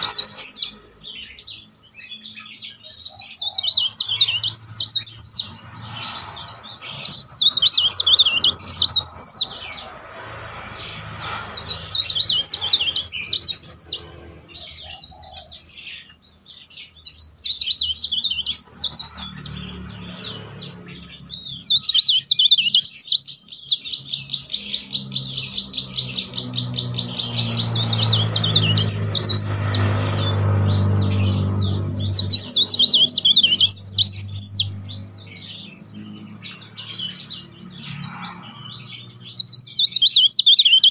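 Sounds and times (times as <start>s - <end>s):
warbler singing whistled phrases: 0.0s - 40.9s.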